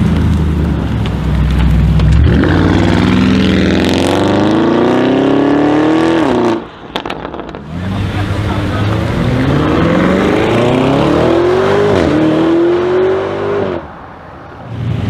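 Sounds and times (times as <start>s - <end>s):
car engine accelerating hard: 1.6s - 13.9s.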